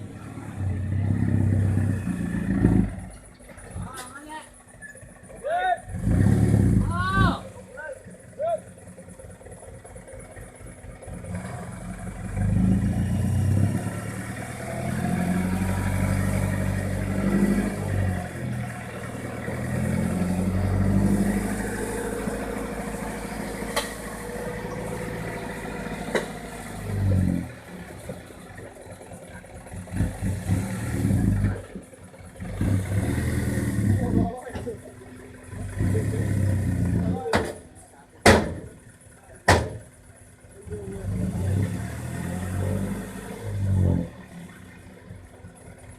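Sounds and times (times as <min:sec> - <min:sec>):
truck diesel engine revving: 0:00.0 - 0:45.9.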